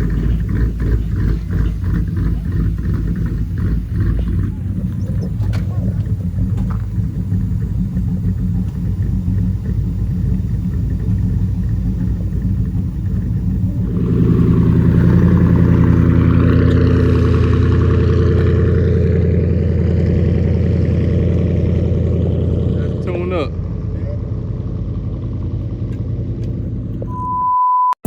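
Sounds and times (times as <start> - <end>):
car engine rumbling and revving: 0.0 - 27.6.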